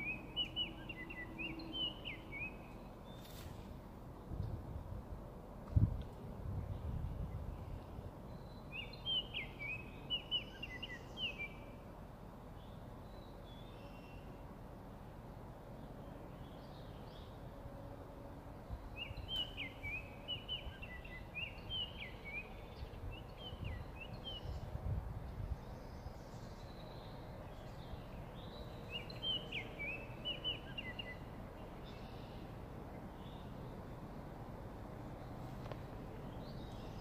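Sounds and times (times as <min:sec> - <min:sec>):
songbird singing: 0:00.0 - 0:04.6, 0:06.6 - 0:14.8, 0:15.4 - 0:37.0
low background noise: 0:00.0 - 0:37.0.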